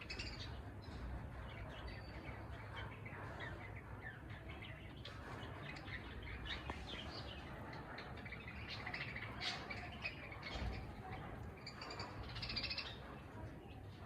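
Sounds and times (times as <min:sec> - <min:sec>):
budgerigars chattering: 0:00.0 - 0:13.2.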